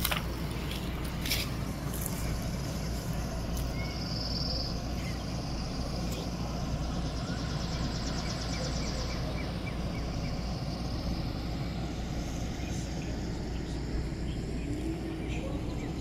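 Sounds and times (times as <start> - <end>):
low outdoor rumble: 0.0 - 16.0
faint bird chirps: 1.8 - 16.0.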